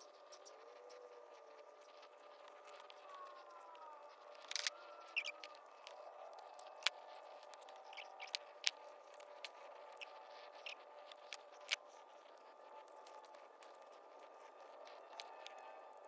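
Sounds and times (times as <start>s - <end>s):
faint whistling glides: 0.0s - 16.0s.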